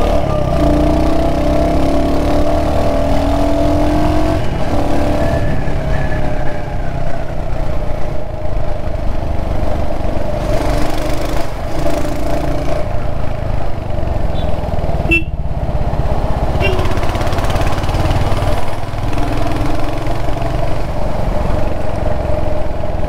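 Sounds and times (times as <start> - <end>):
motorcycle engine cruising: 0.0 - 23.0.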